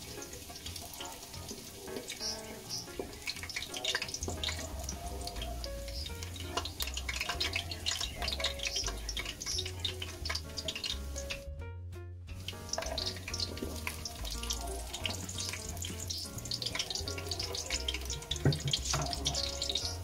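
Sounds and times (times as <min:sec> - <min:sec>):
garlic sizzling in hot oil: 0:00.0 - 0:11.4, 0:12.3 - 0:20.0
background music with bass: 0:00.0 - 0:20.0.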